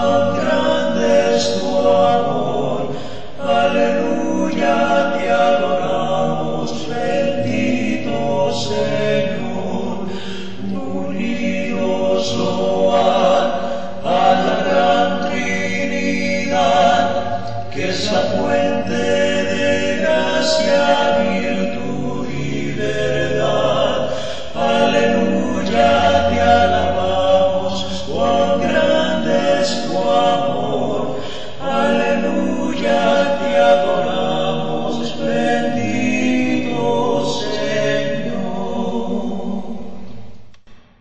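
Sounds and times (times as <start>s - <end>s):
choir singing a cappella: 0.0s - 40.4s.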